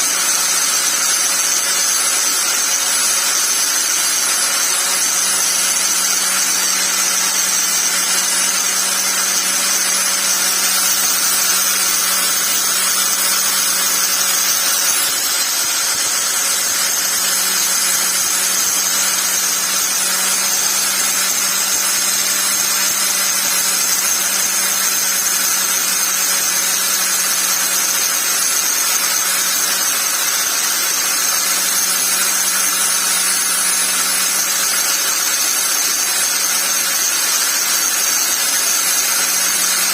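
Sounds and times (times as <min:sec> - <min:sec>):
angle grinder running: 0:00.0 - 0:39.9.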